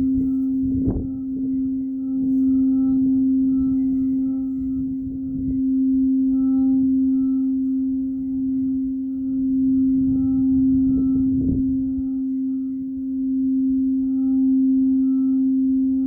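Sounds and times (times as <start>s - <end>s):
singing bowl low tone: 0.0s - 16.0s.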